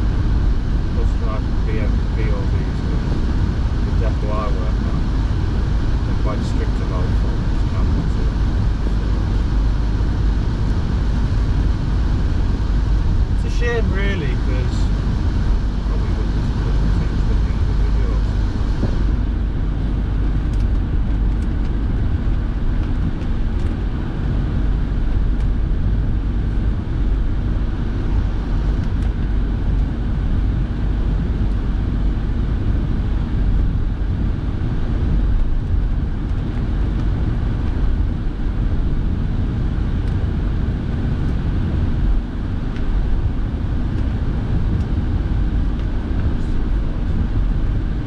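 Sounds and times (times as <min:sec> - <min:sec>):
heater fan blowing: 0:00.0 - 0:48.0
tyre and engine rumble: 0:00.0 - 0:48.0.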